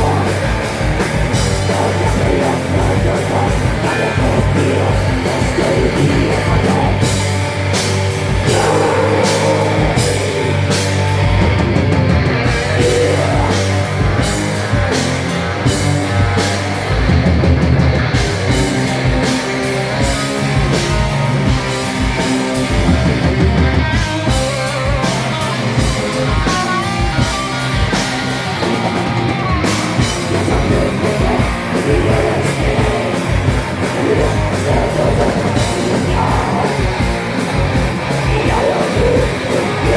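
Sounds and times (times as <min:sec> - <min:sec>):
heavy rock band playing live: 0:00.0 - 0:39.9.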